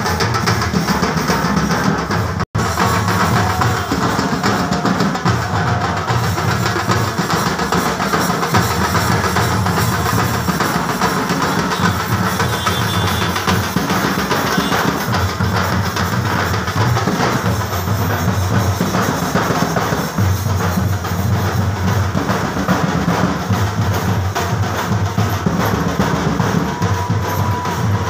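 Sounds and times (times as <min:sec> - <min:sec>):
deep bass drum beats: 0:00.0 - 0:28.0
rhythmic group drumming: 0:00.0 - 0:28.0.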